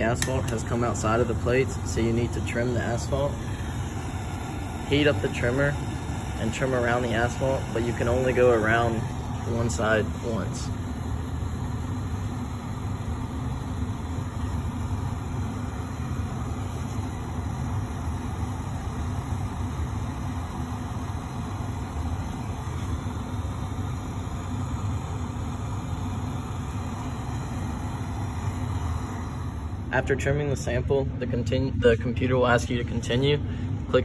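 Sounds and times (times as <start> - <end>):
low mechanical equipment hum: 0.0 - 34.0.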